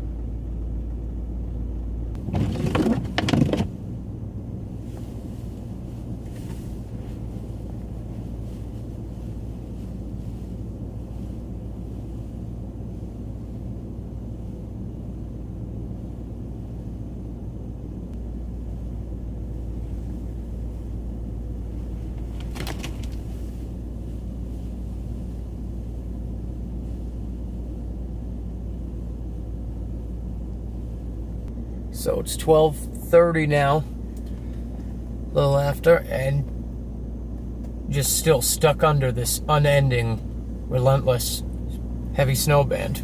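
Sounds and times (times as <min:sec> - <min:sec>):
pickup truck engine rumble: 0:00.0 - 0:43.0.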